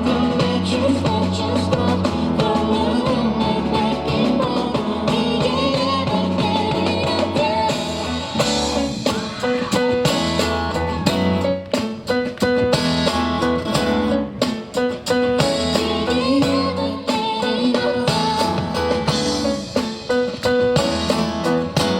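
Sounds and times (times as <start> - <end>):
steady drum beat: 0.0 - 21.9
guitar riff: 3.2 - 21.9.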